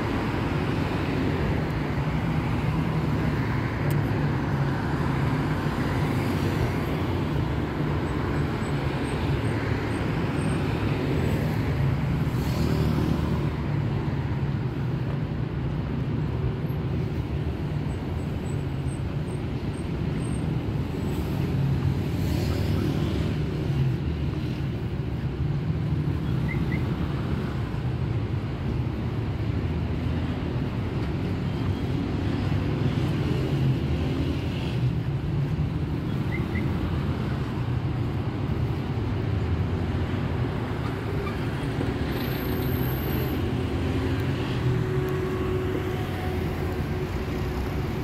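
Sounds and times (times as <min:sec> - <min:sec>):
hum of car engines and tyres: 0:00.0 - 0:48.0
vehicles passing closely: 0:00.0 - 0:48.0.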